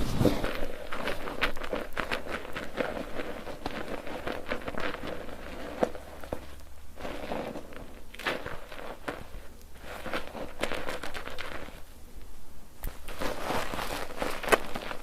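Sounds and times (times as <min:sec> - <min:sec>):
soap lather squelching and crackling: 0:00.0 - 0:11.9, 0:12.8 - 0:15.0.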